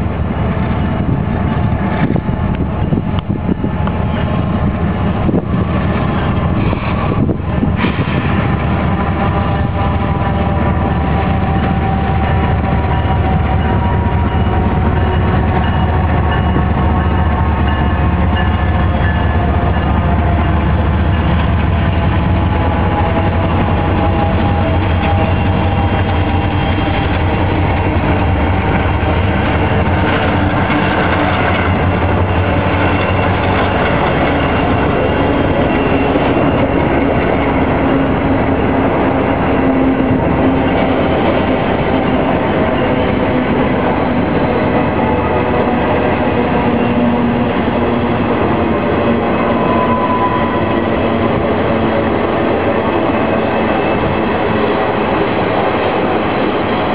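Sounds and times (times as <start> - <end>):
diesel locomotive engine drone: 0.0 - 56.9
train wheels rumbling on rails: 0.0 - 56.9.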